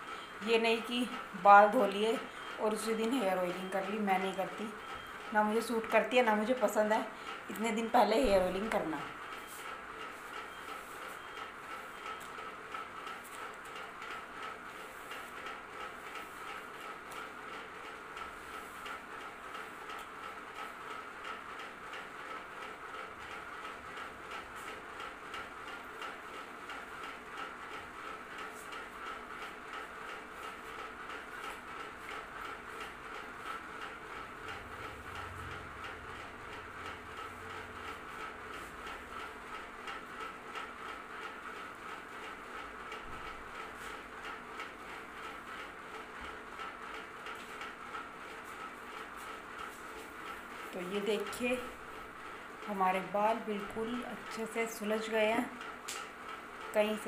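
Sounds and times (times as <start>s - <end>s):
ceiling fan whirring and ticking: 0.0s - 57.0s.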